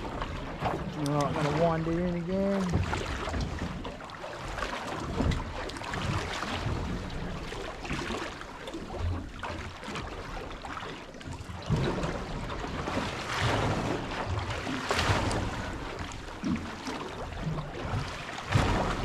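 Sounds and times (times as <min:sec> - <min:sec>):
water lapping at boat hull: 0:00.0 - 0:19.0.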